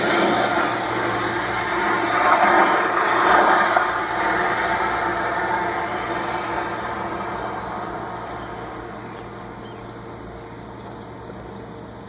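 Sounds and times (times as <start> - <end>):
droning tones in sky: 0.0 - 12.0
steady low hum: 0.0 - 12.0.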